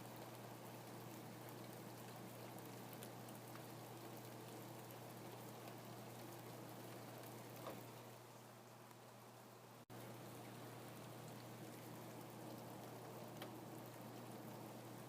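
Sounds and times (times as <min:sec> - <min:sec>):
faint rain falling: 0:00.0 - 0:15.0.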